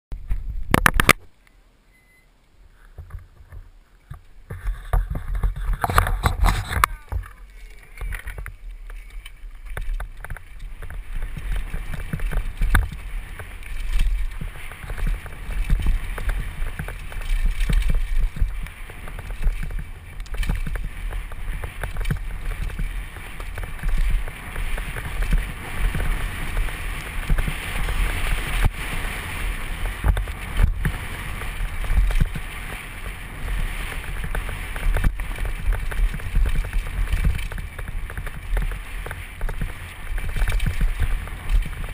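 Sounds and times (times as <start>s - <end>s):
tyres on loose dirt and stones: 0.1s - 1.4s, 2.4s - 41.9s
bike rattling over bumps: 2.8s - 41.9s
wind buffeting microphone: 2.9s - 41.9s.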